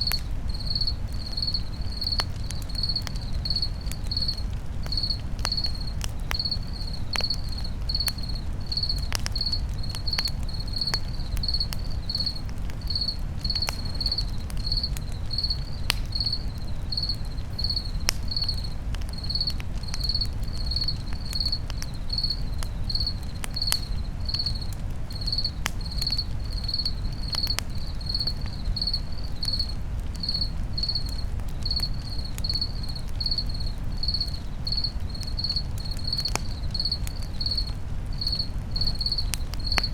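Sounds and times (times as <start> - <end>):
campfire crackling: 0.0 - 39.9
cricket chirping: 0.0 - 39.9.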